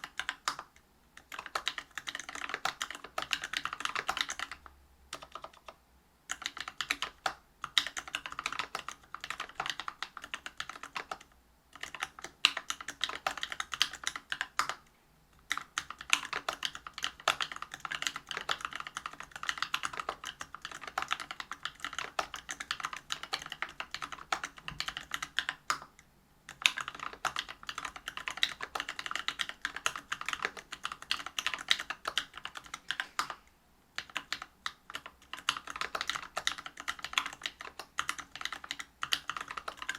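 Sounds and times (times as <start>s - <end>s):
typing on mechanical keyboard: 0.0s - 33.4s, 34.0s - 39.9s.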